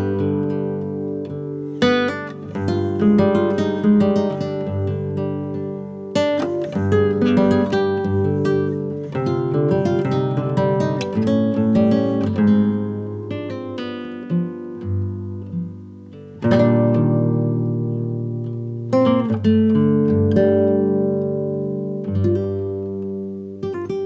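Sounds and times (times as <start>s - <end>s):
acoustic guitar: 0.0s - 24.0s.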